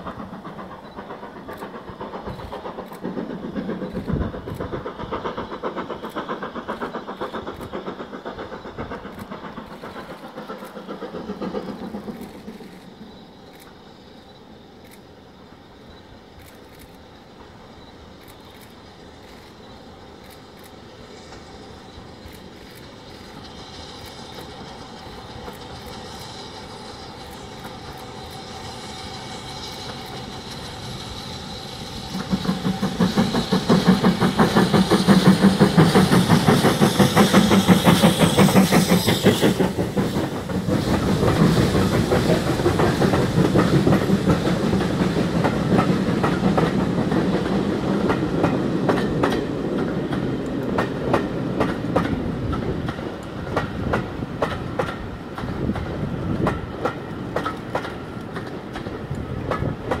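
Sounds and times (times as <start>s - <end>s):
wheels clicking over rail joints: 0.0s - 13.8s, 16.4s - 20.8s, 22.2s - 60.0s
steam locomotive exhaust beats: 0.0s - 60.0s
train coaches rumbling: 0.0s - 60.0s.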